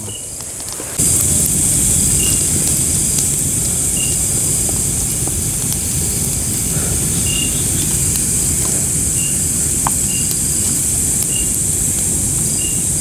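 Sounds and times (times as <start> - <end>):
campfire burning and crackling: 0.0 - 13.0
chorus of night insects: 0.0 - 13.0.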